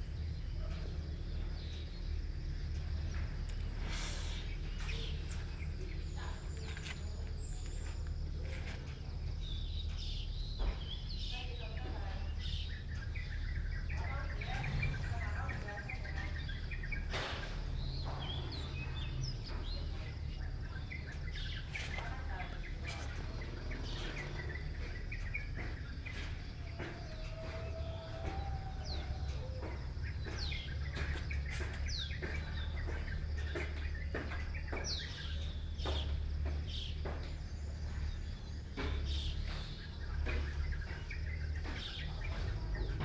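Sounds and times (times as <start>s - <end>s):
small birds chirping: 0.0s - 43.0s
steady low rumble: 0.0s - 43.0s.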